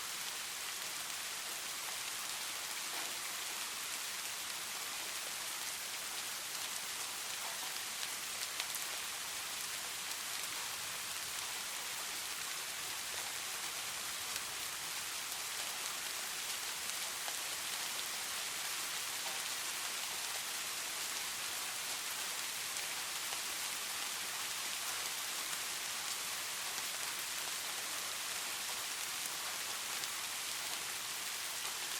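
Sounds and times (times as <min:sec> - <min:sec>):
steady rain hiss: 0:00.0 - 0:31.9.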